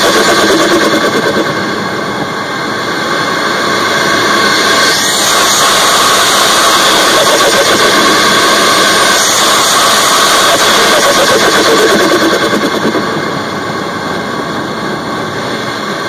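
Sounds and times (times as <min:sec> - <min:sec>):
turbo intake rush: 0:00.0 - 0:16.0.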